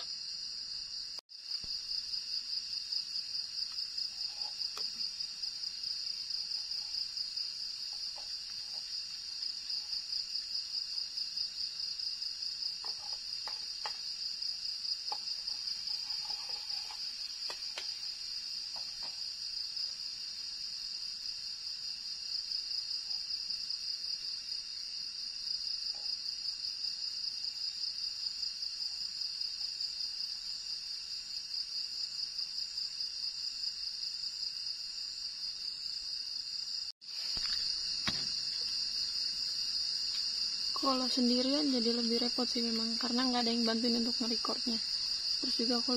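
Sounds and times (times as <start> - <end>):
night insects chorus: 0.0 - 45.9.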